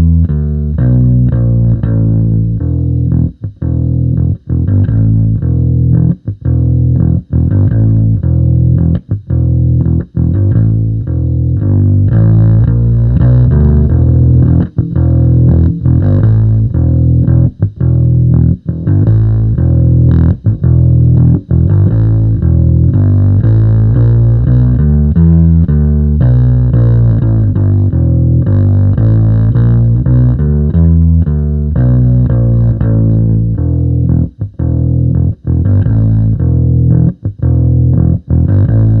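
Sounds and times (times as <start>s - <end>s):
electric bass riff: 0.0s - 39.0s.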